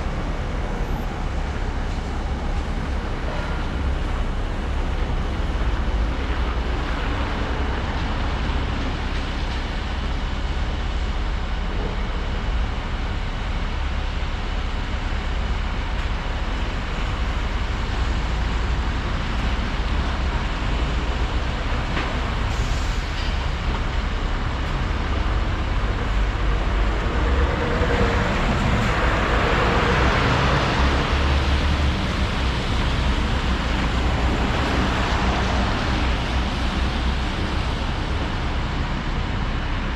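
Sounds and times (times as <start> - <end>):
excavator engine and hydraulics: 0.0 - 39.9.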